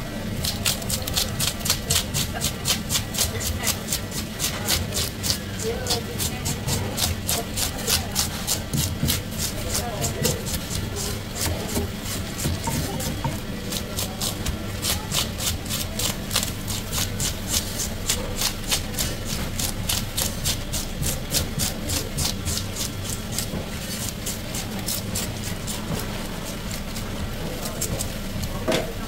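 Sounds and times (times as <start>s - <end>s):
scaler scraping fish scales: 0.4s - 28.6s.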